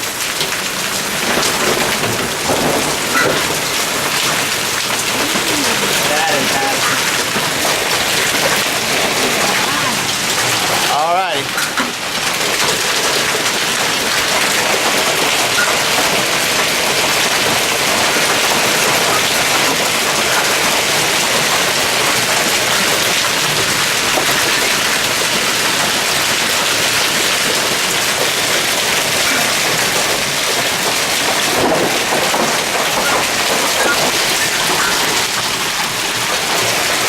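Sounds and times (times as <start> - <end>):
heavy rain and hail: 0.0 - 37.0.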